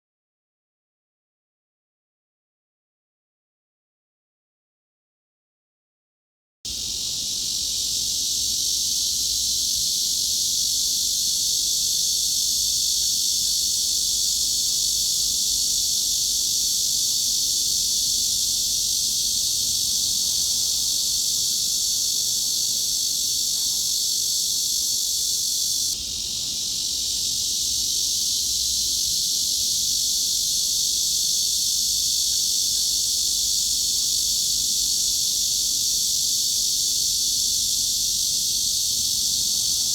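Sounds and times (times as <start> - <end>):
cicada drone: 6.7 - 39.9.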